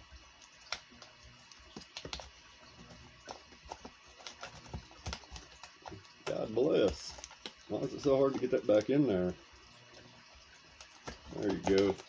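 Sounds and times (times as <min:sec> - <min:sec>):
plastic package clicking and crinkling: 0:00.4 - 0:09.0, 0:09.9 - 0:12.0.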